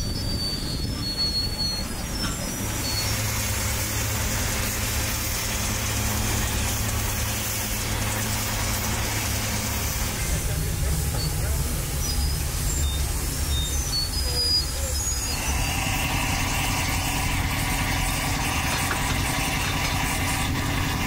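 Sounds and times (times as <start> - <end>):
machine running: 2.5 - 14.2, 15.2 - 21.0.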